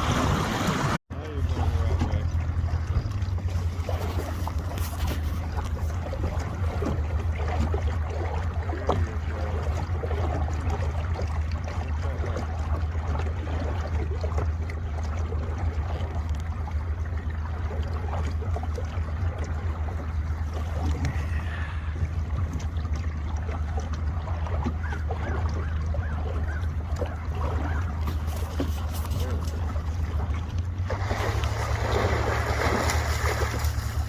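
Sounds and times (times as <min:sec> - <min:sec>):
boat motor humming: 0:00.0 - 0:34.0
water lapping against hull: 0:00.0 - 0:34.0.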